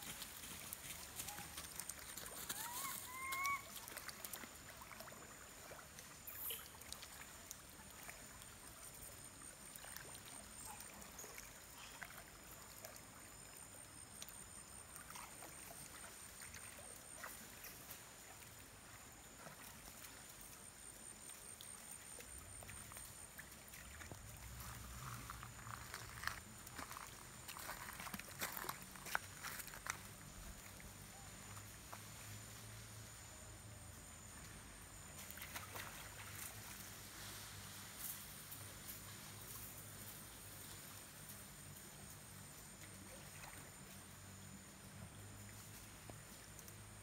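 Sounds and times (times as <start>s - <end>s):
water lapping and splashing: 0.0s - 32.6s, 34.9s - 41.0s, 42.2s - 44.4s.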